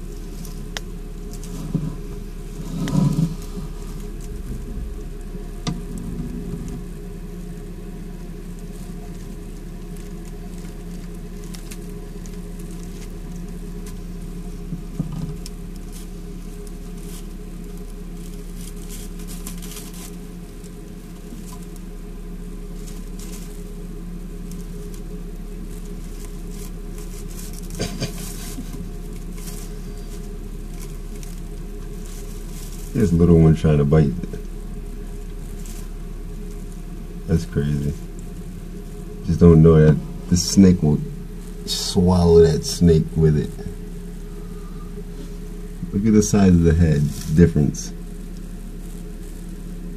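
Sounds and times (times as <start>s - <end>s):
crackling rustle of paper bedding: 0.0s - 49.9s
steady low hum: 0.0s - 49.9s.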